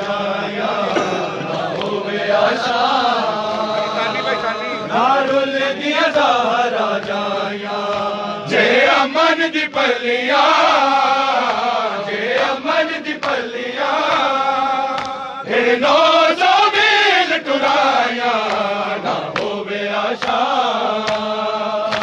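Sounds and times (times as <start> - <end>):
men chanting a lament: 0.0 - 22.0.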